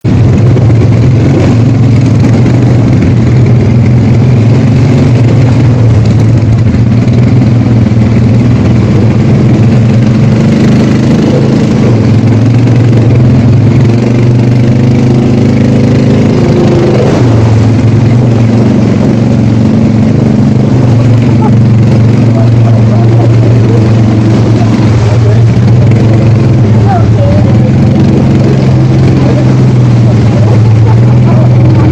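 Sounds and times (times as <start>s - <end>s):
atv engine running: 0.0s - 31.9s.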